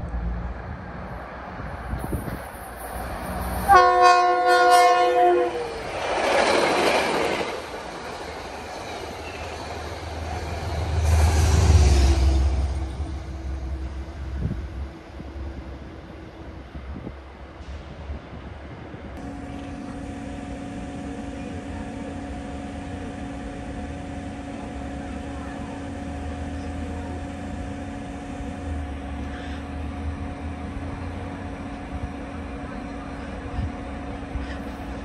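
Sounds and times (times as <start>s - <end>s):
train humming: 0.0s - 35.0s.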